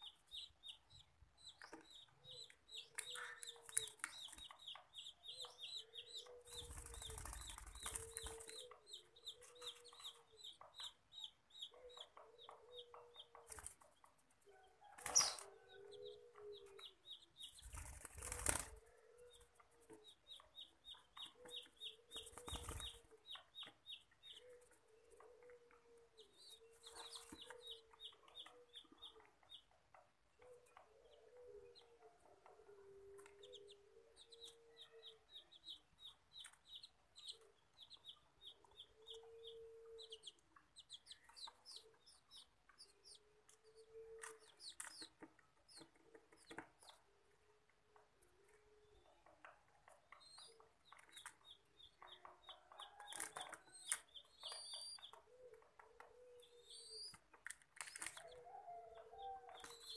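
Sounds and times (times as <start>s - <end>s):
bird chick peeping: 0.0s - 59.9s.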